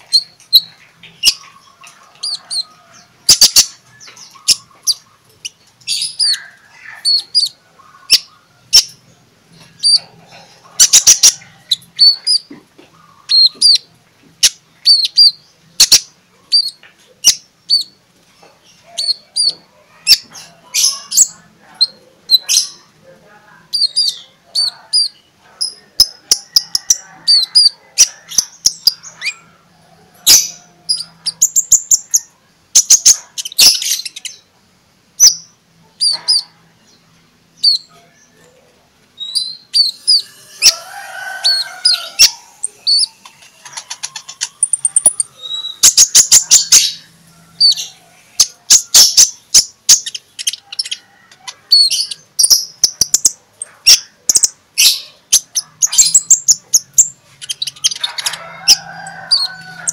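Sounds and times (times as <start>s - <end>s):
bird chirping and trilling: 0.0s - 18.0s, 18.6s - 23.0s, 23.6s - 34.5s, 35.2s - 38.5s, 39.2s - 59.9s.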